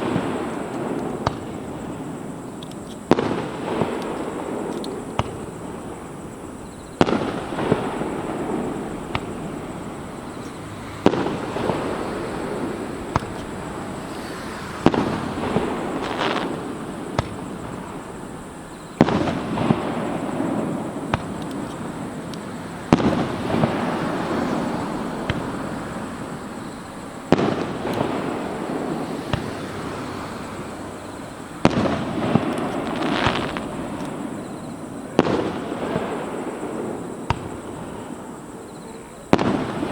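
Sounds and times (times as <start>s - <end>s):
firework shells bursting: 0.0s - 38.4s.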